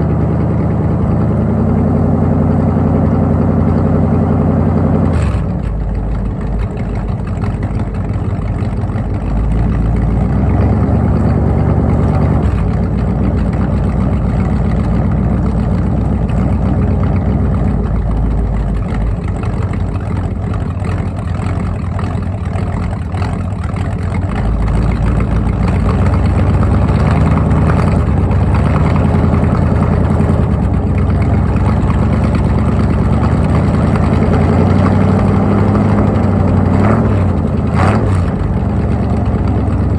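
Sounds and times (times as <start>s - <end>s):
engine idling through exhaust: 0.0s - 39.9s.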